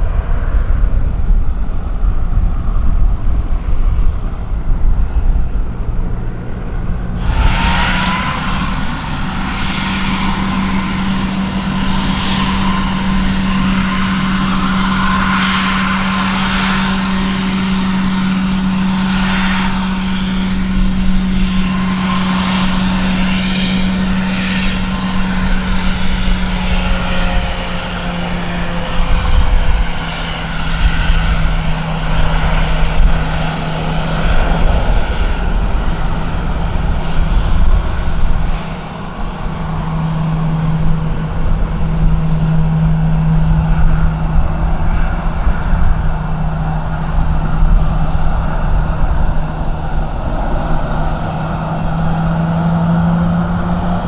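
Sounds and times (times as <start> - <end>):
jet engine whine: 0.0 - 54.0
jet engines humming: 0.0 - 54.0
low rumble: 0.0 - 54.0
wind buffeting microphone: 0.0 - 54.0.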